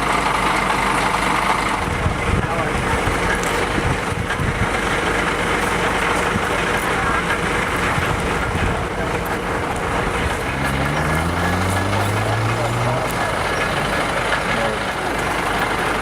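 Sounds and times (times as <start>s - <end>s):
background voices: 0.0s - 16.0s
heavy vehicle engine idling: 0.0s - 16.0s.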